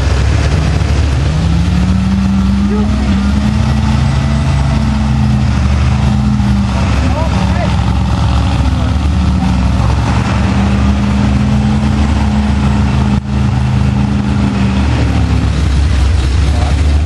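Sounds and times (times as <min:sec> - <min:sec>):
truck engine crawling through mud: 0:00.0 - 0:17.0.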